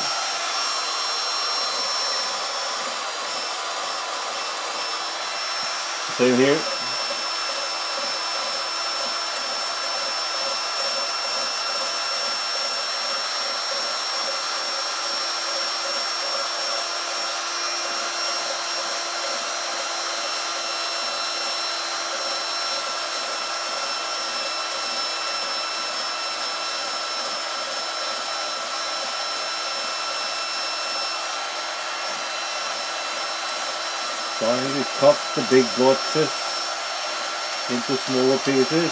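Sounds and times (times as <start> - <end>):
electric motor hum with whining: 0.0 - 38.9.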